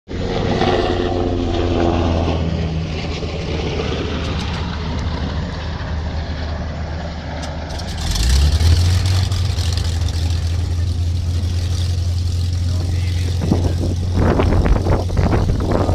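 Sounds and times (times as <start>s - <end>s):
piston aircraft engine running: 0.1s - 15.9s.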